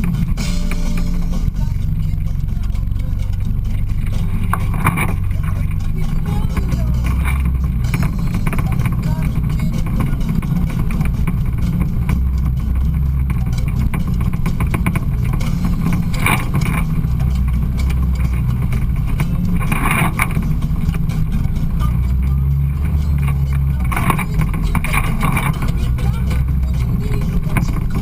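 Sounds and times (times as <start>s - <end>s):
light rattling: 0.0s - 28.0s
off-road vehicle engine rumbling: 0.0s - 28.0s.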